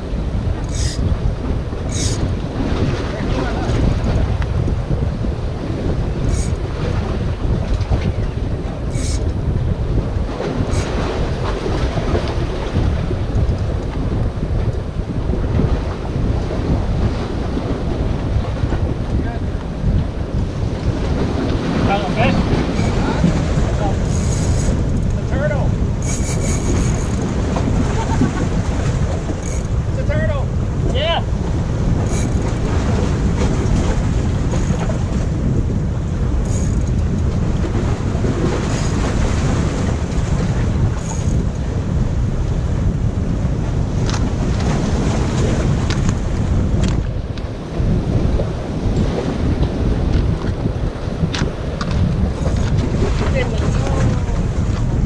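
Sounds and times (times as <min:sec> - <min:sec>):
waves washing against rocks: 0:00.0 - 0:55.0
wind buffeting microphone: 0:00.0 - 0:55.0.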